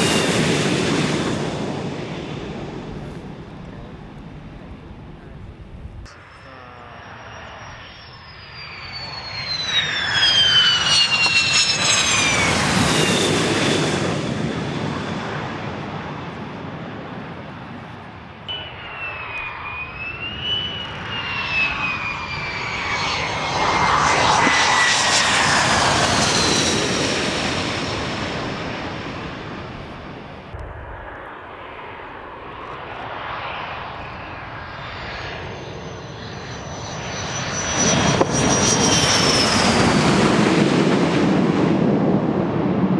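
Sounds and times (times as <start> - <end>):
fighter jets landing: 0.0 - 42.9.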